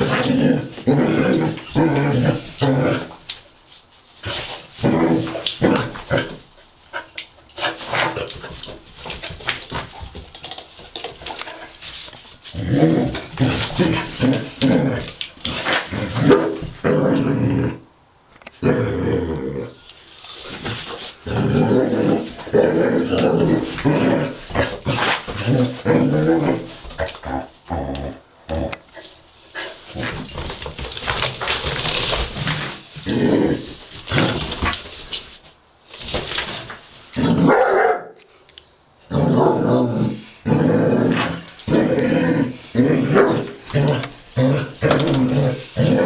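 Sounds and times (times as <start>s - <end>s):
dog play-growling: 0.0s - 3.4s, 4.2s - 6.6s, 7.6s - 17.8s, 18.6s - 35.2s, 39.1s - 46.0s.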